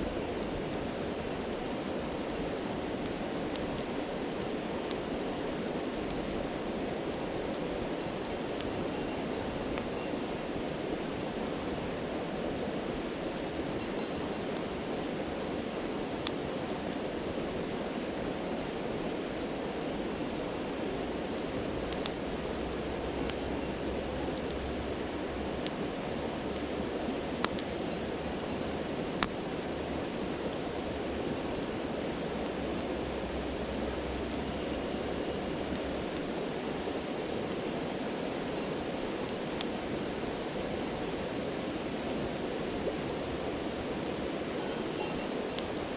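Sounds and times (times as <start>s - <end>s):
campfire crackling and popping: 0.0s - 45.9s
stream rushing: 0.0s - 45.9s.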